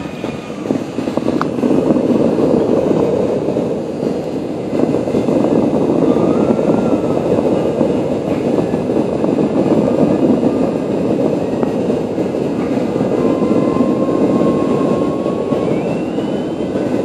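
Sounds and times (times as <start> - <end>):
engine rumble: 0.0 - 17.0.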